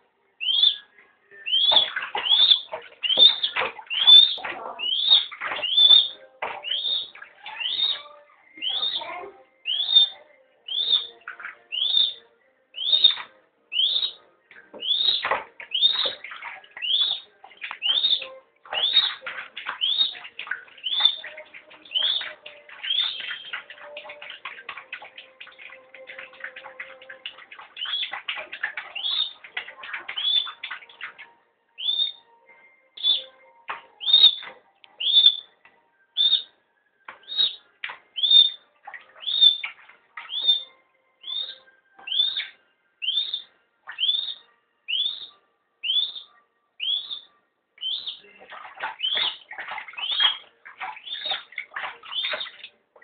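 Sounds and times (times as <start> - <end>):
bird chirping: 0.4 - 52.7.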